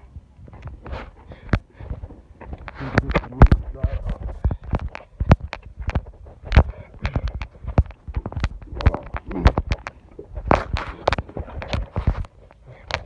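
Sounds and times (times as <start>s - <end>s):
footsteps on wooden steps: 0.0s - 13.0s.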